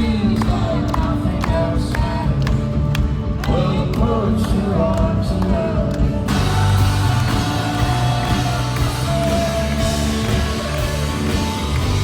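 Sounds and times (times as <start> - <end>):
band accompaniment: 0.0 - 12.0.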